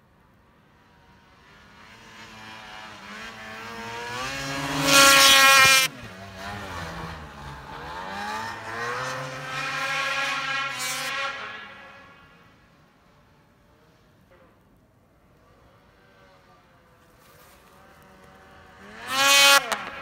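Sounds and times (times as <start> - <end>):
snowmobile revving past: 0.8 - 12.6, 15.4 - 20.0.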